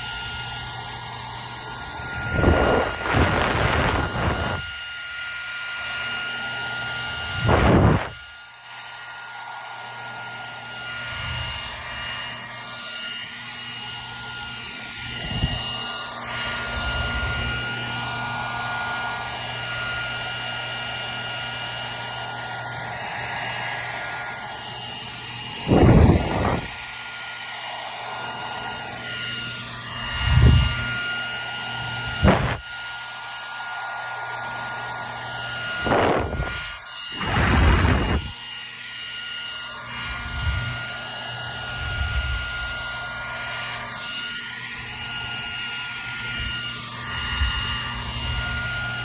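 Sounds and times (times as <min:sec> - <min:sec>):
hair dryer running: 0:00.0 - 0:49.0.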